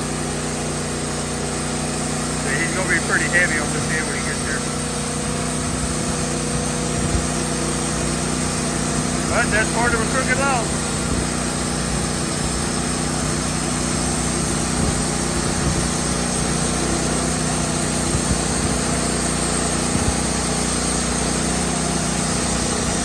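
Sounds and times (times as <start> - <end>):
bandsaw mill cutting log: 0.0 - 23.0.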